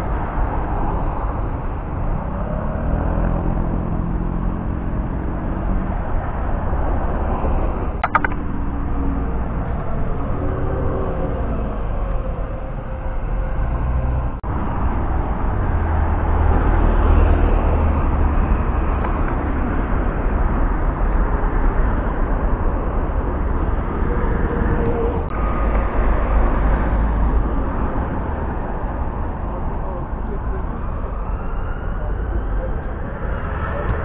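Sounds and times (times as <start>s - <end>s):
cars and buses driving past: 0.0s - 34.0s.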